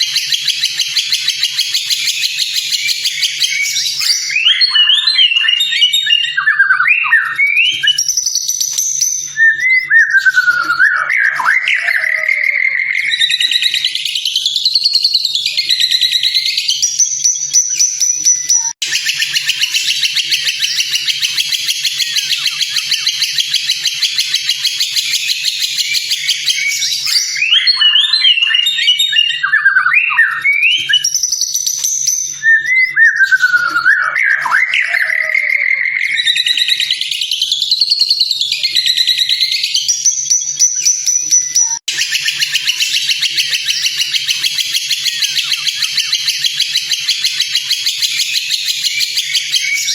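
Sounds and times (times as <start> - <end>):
rapid buzzy bird trill: 0.0 - 49.9
songbird singing whistled phrases: 0.0 - 49.9.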